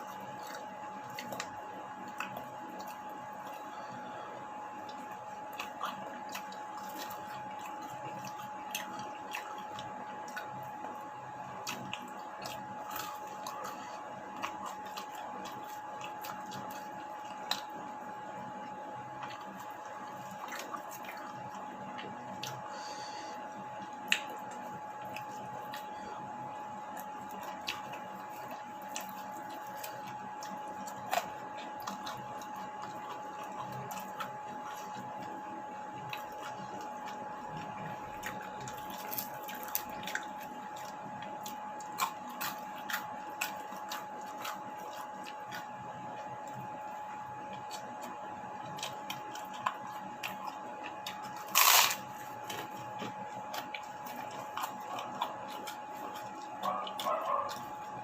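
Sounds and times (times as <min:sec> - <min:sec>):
chewing clicks and smacks: 0:00.0 - 0:03.7, 0:04.7 - 0:22.7, 0:23.6 - 0:58.0
steady high-pitched hum: 0:00.0 - 0:58.0.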